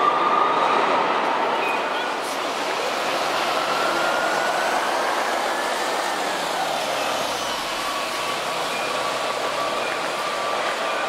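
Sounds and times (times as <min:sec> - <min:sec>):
bus engine and tyre noise: 0:00.0 - 0:11.0.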